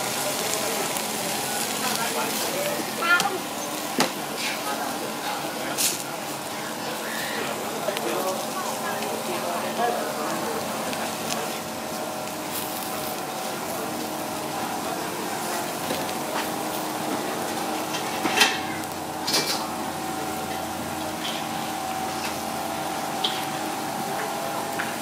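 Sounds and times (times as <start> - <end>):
faint voices: 0.0 - 25.0.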